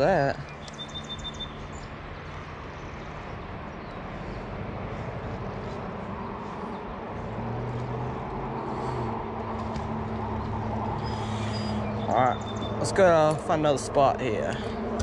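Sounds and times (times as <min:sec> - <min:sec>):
continuous rushing noise: 0:00.0 - 0:15.0
vehicle engine humming: 0:00.0 - 0:15.0.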